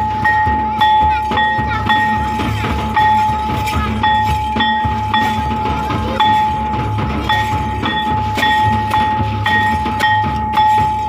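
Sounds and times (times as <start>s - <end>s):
large drums beating: 0.0s - 11.0s.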